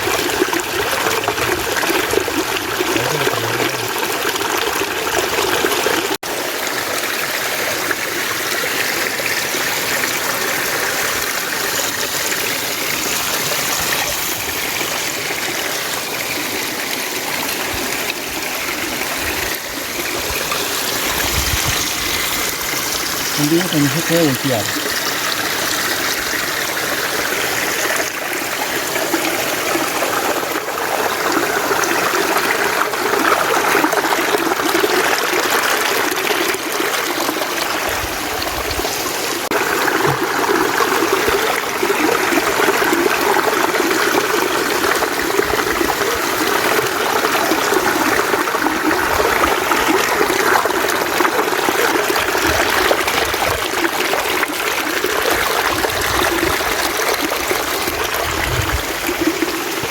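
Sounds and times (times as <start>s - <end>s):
mountain stream running: 0.0s - 59.9s.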